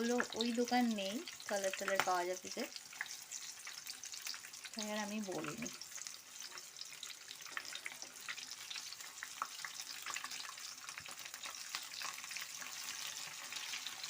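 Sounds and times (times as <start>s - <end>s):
chicken wings deep-frying in oil: 0.0s - 14.0s.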